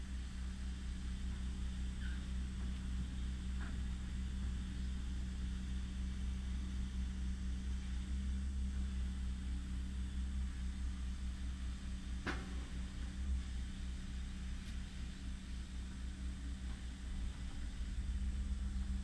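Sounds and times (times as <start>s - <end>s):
excavator engine humming: 0.0s - 19.0s.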